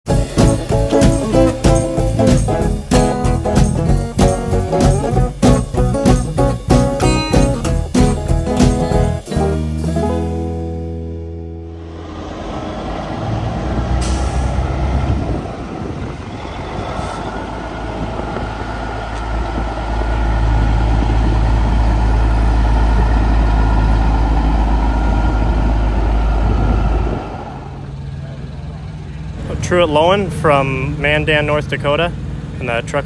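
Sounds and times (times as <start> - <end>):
diesel truck engine rumble: 0.1 - 33.0.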